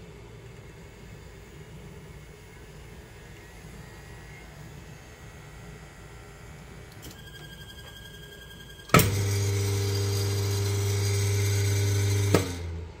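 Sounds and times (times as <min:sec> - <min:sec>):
coffee grinder motor hum: 0:00.4 - 0:13.0.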